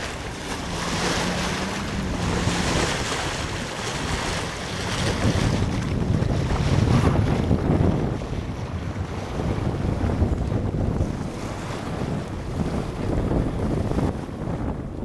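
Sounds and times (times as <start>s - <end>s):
choppy water washing along hull: 0.0s - 15.0s
wind buffeting microphone: 0.0s - 15.0s.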